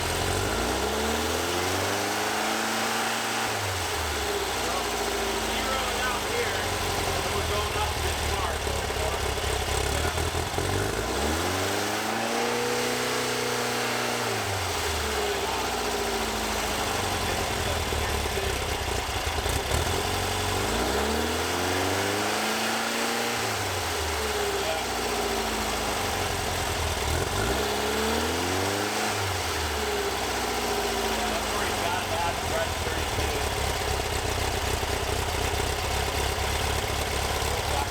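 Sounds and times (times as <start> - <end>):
engine revving: 0.0 - 37.9.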